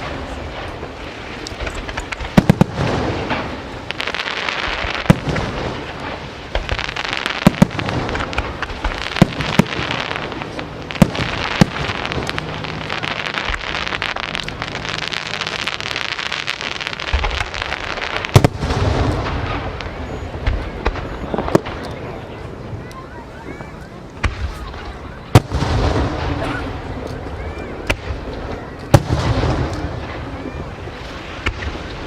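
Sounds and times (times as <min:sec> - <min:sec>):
firework shells booming: 0:00.0 - 0:21.8, 0:24.2 - 0:32.0
dense firework crackling: 0:00.0 - 0:32.0.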